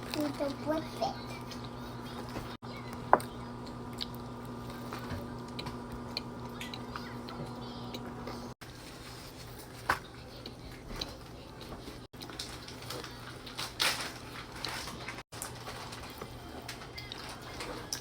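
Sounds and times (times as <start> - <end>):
chewing with crunches: 0.0 - 18.0.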